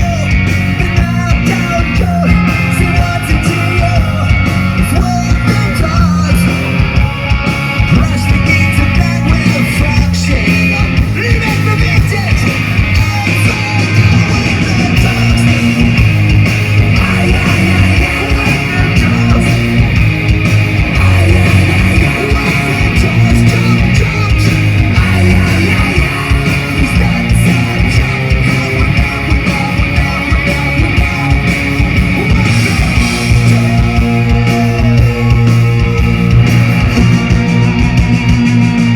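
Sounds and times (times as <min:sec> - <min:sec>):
bass guitar: 0:00.0 - 0:38.9
distorted electric guitars: 0:00.0 - 0:38.9
driving drum beat: 0:00.0 - 0:38.9.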